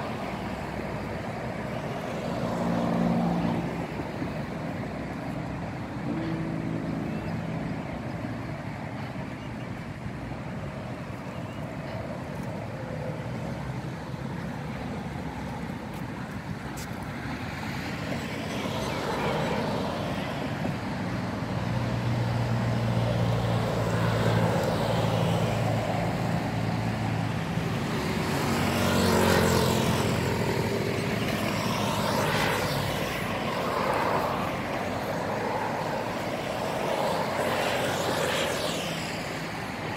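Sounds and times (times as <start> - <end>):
traffic rumble: 0.0 - 39.9
vehicles passing close: 0.0 - 39.9.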